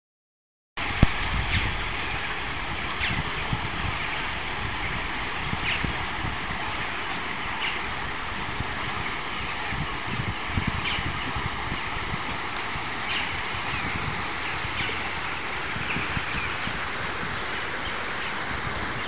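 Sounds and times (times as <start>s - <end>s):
water rushing over weir steps: 0.8s - 19.0s.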